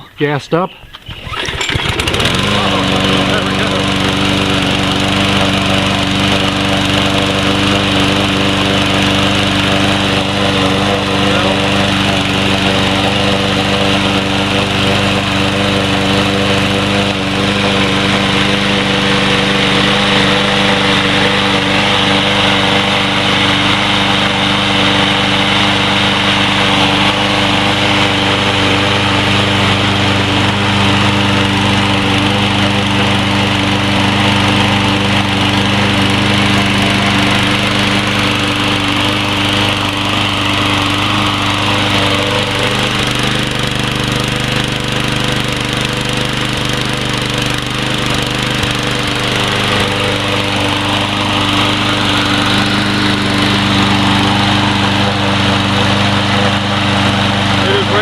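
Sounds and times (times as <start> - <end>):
lawn mower engine running: 0.9 - 58.0.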